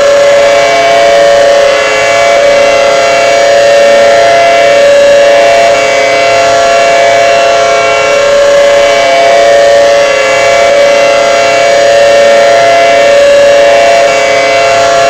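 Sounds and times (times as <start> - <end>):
two-tone siren: 0.0 - 15.0.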